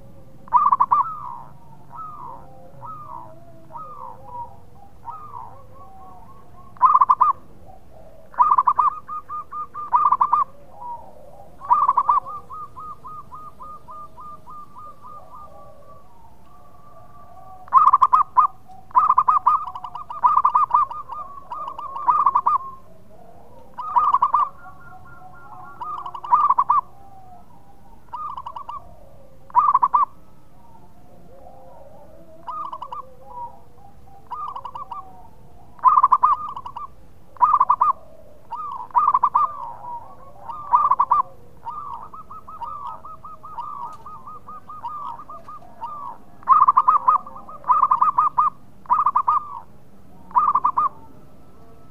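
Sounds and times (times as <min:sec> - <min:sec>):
dove cooing trills: 0:00.0 - 0:51.9.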